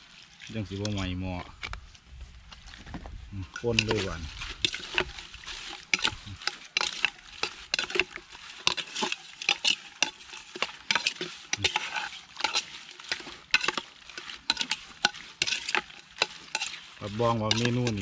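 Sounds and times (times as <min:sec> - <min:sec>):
metal spoon scraping metal pot: 0:03.4 - 0:18.0.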